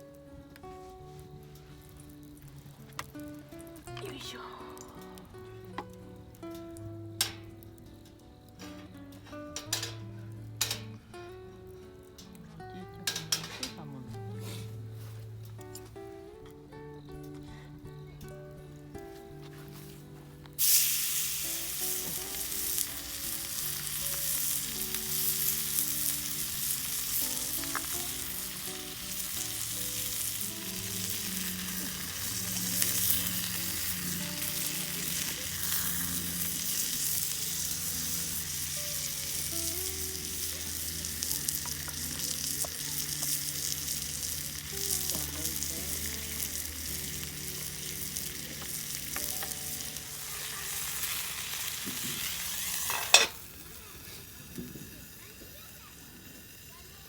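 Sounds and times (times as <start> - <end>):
food sizzling in a pan: 0.0 - 11.7, 13.0 - 15.8, 20.6 - 57.0.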